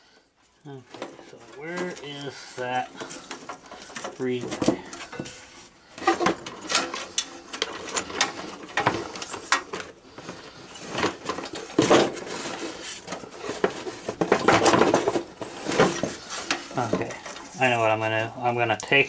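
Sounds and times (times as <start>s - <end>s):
small hard parts clattering: 0.5s - 19.0s.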